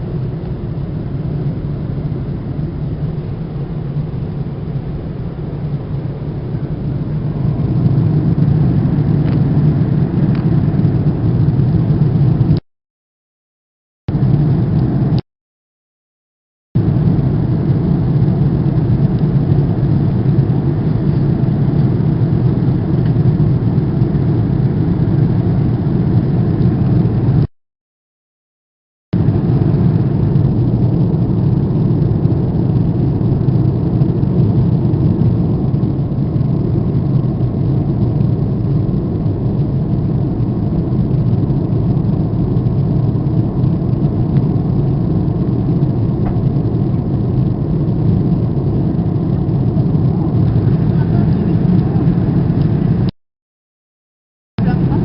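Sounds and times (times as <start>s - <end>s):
low rumbling noise: 0.0s - 12.6s, 14.1s - 15.2s, 16.8s - 27.5s, 29.2s - 53.1s, 54.6s - 55.0s.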